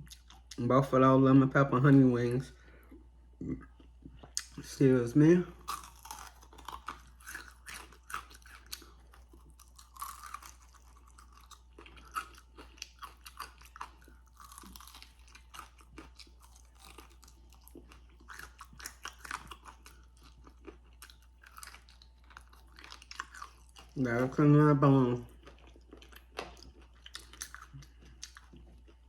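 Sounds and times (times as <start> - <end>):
chewing crispy chicken: 0.0 - 0.7, 3.4 - 4.9, 5.5 - 29.0.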